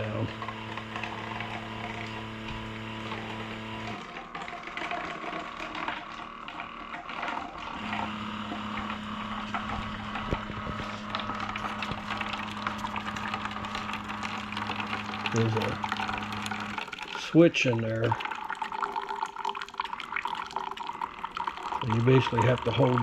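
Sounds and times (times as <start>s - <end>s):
coffee maker pump humming: 0.0s - 23.0s
water heating crackle: 0.0s - 23.0s.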